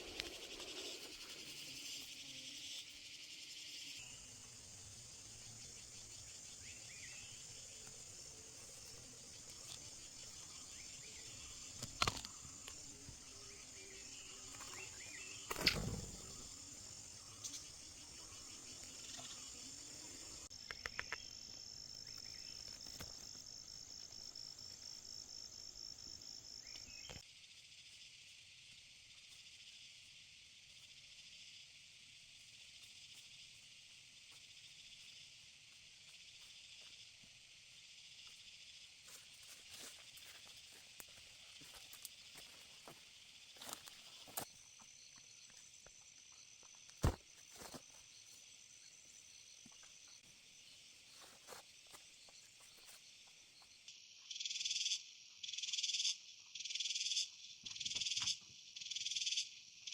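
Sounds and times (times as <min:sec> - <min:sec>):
insect buzzing and trilling: 0:00.0 - 0:59.9.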